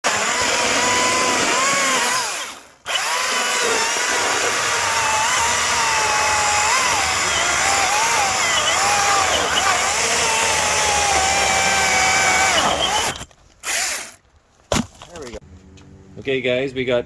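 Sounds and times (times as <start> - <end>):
battery chainsaw motor whine: 0.0 - 14.2.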